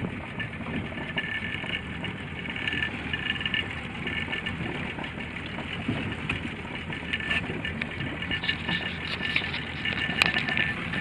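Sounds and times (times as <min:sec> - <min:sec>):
boat engine running: 0:00.0 - 0:11.0
water wash: 0:00.0 - 0:11.0
wind: 0:00.0 - 0:11.0.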